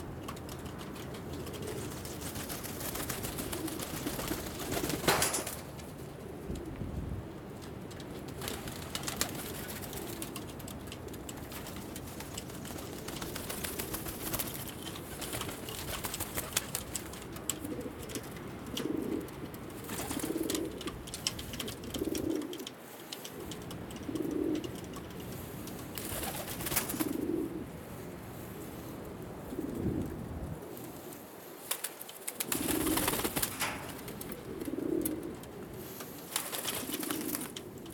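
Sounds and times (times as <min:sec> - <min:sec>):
pigeons cooing: 0:00.0 - 0:07.6, 0:08.2 - 0:37.9
birds clicking and rustling: 0:00.0 - 0:27.4, 0:30.7 - 0:37.9.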